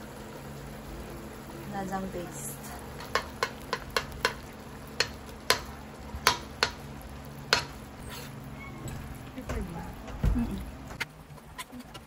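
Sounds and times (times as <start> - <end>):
low cooking sizzle: 0.0 - 12.0.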